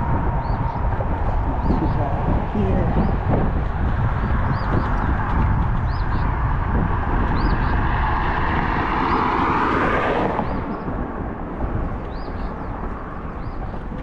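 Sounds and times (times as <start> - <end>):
vehicle passing: 0.0 - 14.0
wind buffeting microphone: 0.0 - 14.0.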